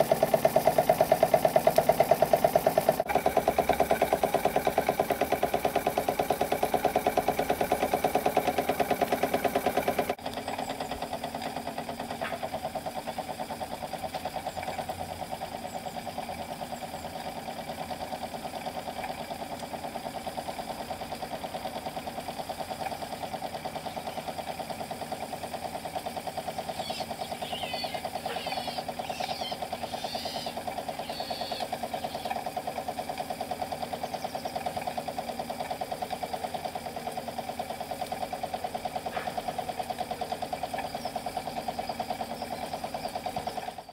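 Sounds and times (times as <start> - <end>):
model steam engine running: 0.0 - 43.9.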